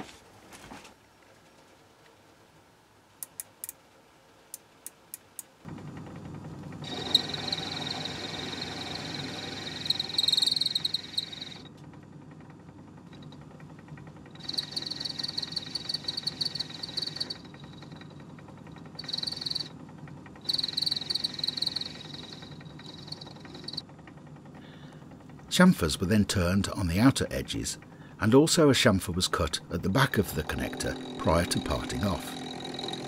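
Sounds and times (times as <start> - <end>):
lathe hum: 5.7 - 23.9, 24.6 - 33.0.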